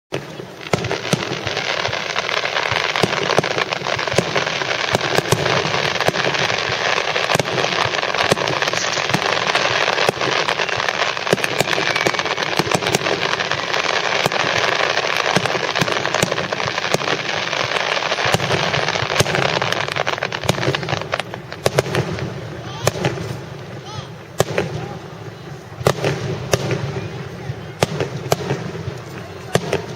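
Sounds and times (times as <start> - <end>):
fireworks crackling and banging: 0.1 - 29.9.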